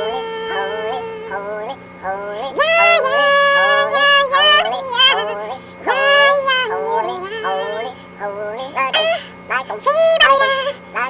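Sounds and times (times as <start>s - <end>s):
high-pitched voices singing: 0.0s - 11.0s
steady low hum: 0.0s - 11.0s.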